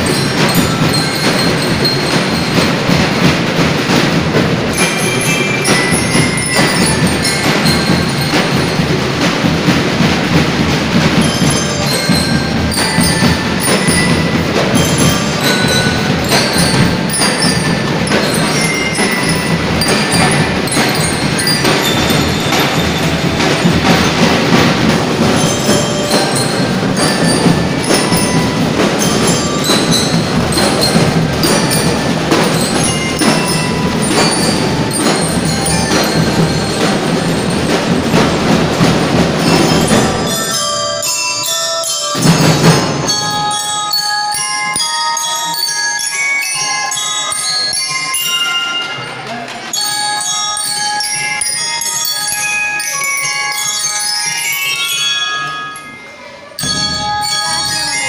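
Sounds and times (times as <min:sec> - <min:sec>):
drums playing: 0:00.0 - 0:45.7, 0:56.6 - 0:58.0
bell lyres ringing melody: 0:00.0 - 0:58.0.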